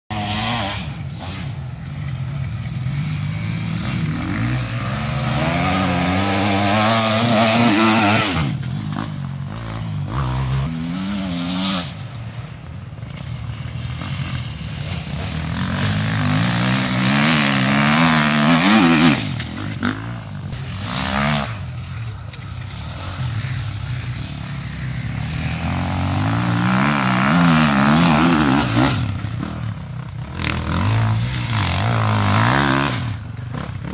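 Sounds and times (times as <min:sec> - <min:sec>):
motorcycle engines revving: 0:00.1 - 0:33.9.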